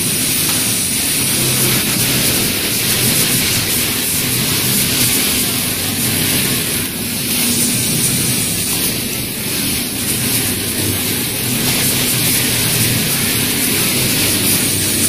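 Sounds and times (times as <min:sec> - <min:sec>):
sewing machinery hum and hiss: 0:00.0 - 0:15.0.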